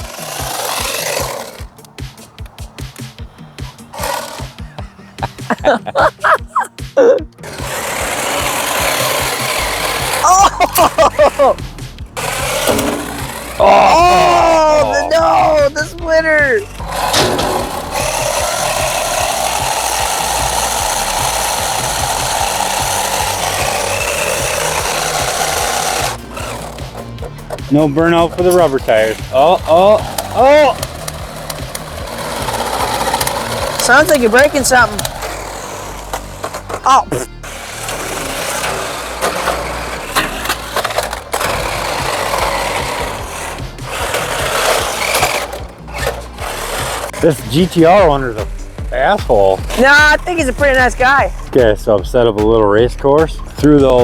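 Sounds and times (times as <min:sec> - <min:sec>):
toy car motor whirring: 0:00.0 - 0:01.9, 0:03.7 - 0:04.7, 0:07.4 - 0:11.6, 0:12.2 - 0:15.0, 0:16.6 - 0:51.5.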